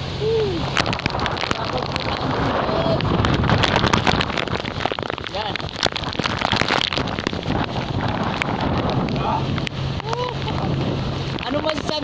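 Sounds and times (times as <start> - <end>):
heavy rain: 0.0 - 12.0
wind gusts buffeting microphone: 0.0 - 12.0.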